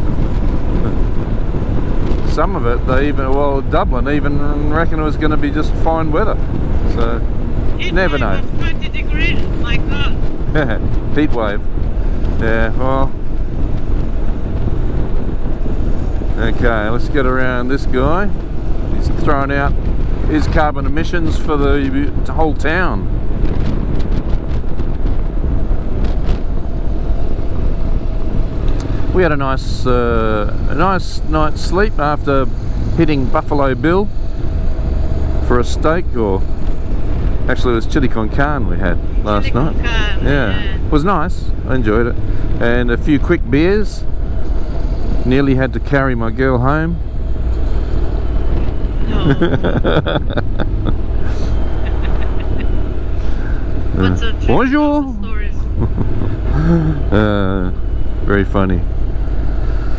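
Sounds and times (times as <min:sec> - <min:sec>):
motorcycle engine rumble: 0:00.0 - 0:59.9
road noise: 0:00.0 - 0:59.9
wind buffeting: 0:00.0 - 0:59.9.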